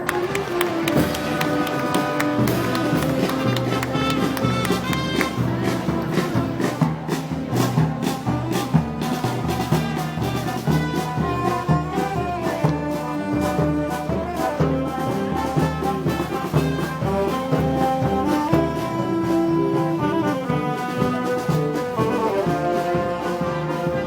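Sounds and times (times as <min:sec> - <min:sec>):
brass band playing: 0:00.0 - 0:24.0
steady drum beat: 0:00.0 - 0:24.0.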